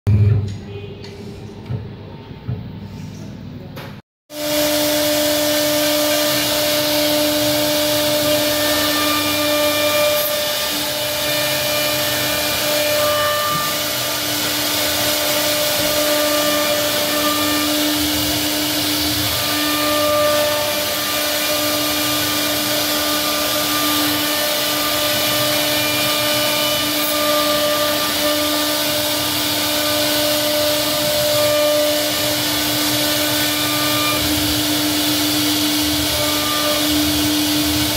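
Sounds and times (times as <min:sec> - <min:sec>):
hiss of wood cutting: 0:04.3 - 0:37.9
router spindle high whine: 0:04.4 - 0:37.9.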